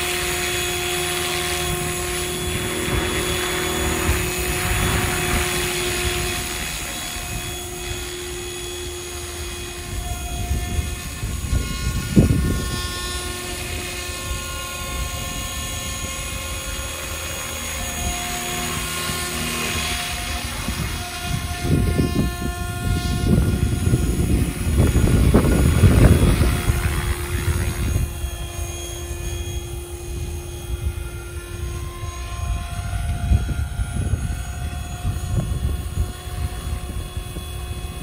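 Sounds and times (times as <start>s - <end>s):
model helicopter whine: 0.0s - 38.0s.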